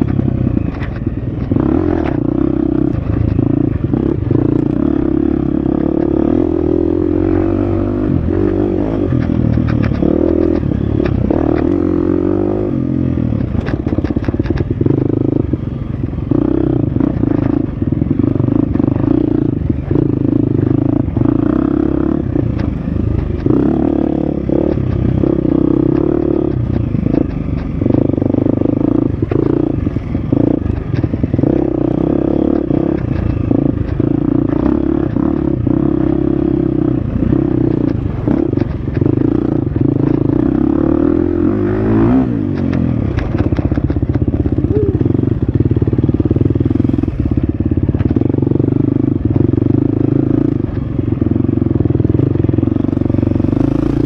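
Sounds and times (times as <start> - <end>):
rattles and knocks over rough ground: 0.0 - 6.6, 7.7 - 12.4, 13.2 - 54.0
dirt bike engine revving: 0.0 - 51.3, 52.1 - 54.0.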